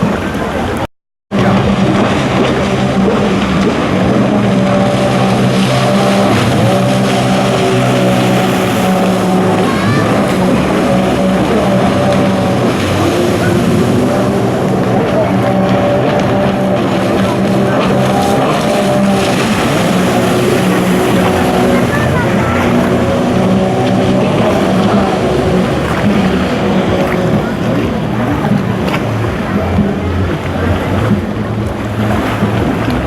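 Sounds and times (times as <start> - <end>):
jet ski engines racing: 0.0 - 33.0.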